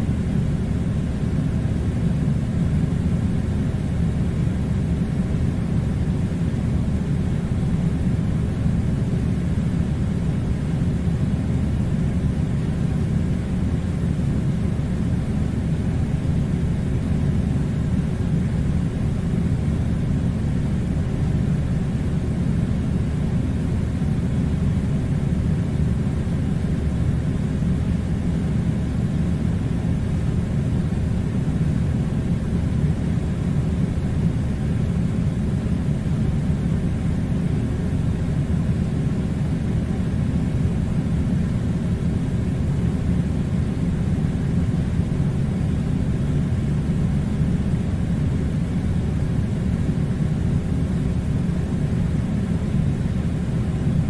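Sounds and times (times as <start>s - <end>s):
air conditioner running: 0.0s - 54.0s.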